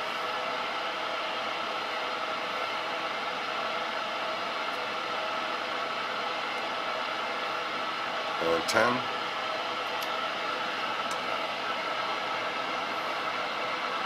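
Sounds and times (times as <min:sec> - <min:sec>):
machinery whirring and hissing: 0:00.0 - 0:14.0.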